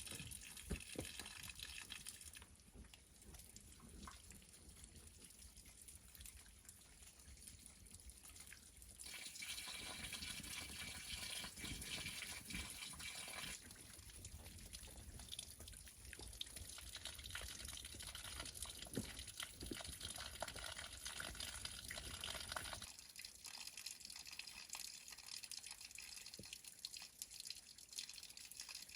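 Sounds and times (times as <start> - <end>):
running and dripping water: 0.0 - 28.9.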